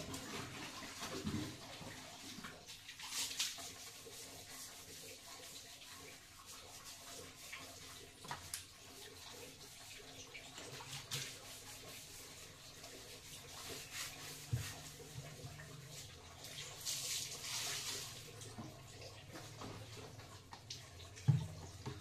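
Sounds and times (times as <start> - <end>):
wet sponge scrubbing ceramic: 0.0 - 22.0.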